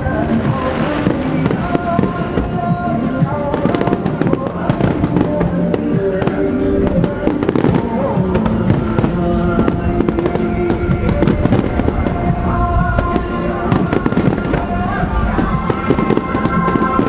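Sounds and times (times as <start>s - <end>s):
fireworks bursting and crackling: 0.0s - 17.0s
music with held notes: 0.0s - 17.0s.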